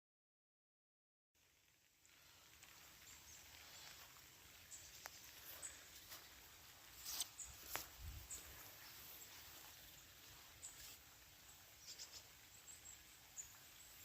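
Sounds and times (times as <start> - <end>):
faint steady hiss: 1.4 - 14.0.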